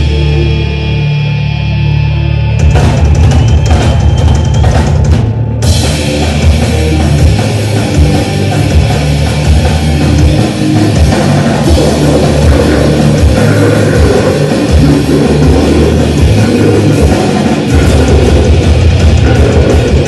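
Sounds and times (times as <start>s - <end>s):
heavy metal music: 0.0s - 20.0s
drum kit pounding: 2.6s - 20.0s.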